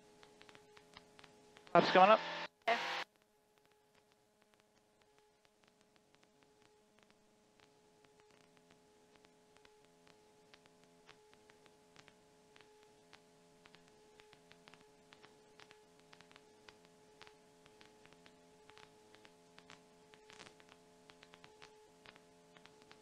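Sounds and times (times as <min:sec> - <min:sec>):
faint electrical hum: 0:00.0 - 0:23.0.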